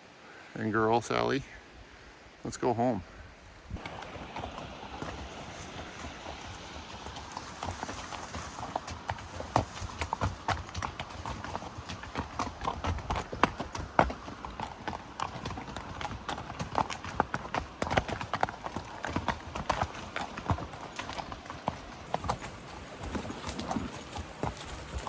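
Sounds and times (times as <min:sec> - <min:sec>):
horse hooves clip-clopping: 0:03.8 - 0:25.0.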